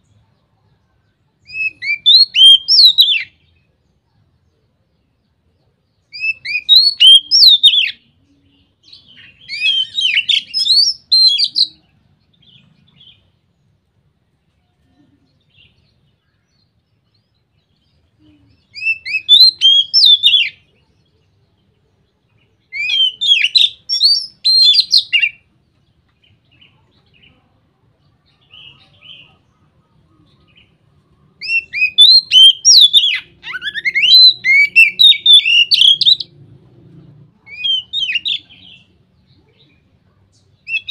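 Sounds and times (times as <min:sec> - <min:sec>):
songbird whistling song: 0:00.0 - 0:03.8, 0:05.0 - 0:13.8, 0:14.9 - 0:25.6, 0:28.2 - 0:36.4, 0:37.4 - 0:40.9.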